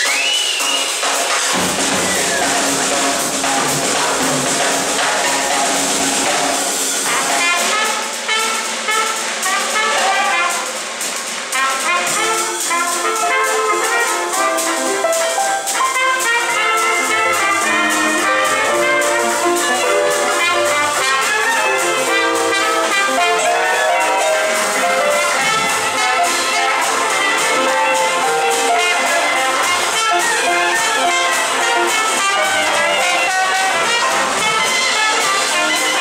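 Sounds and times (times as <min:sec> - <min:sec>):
dixieland jazz band playing: 0:00.0 - 0:36.0.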